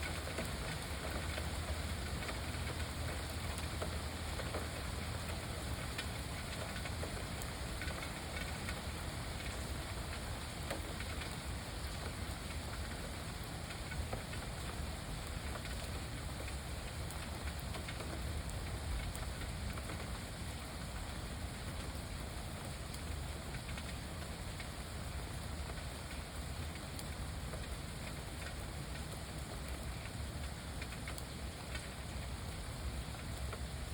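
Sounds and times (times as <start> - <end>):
rain falling on a lake: 0.0 - 33.9.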